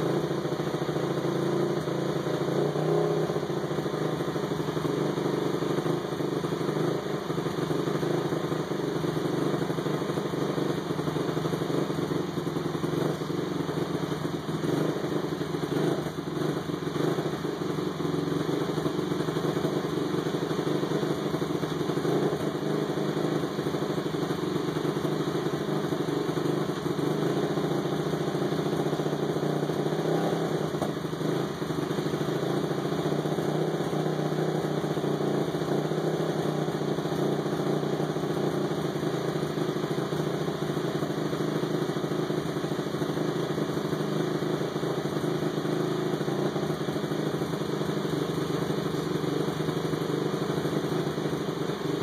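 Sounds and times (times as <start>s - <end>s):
four-stroke engine idling: 0.0s - 52.0s.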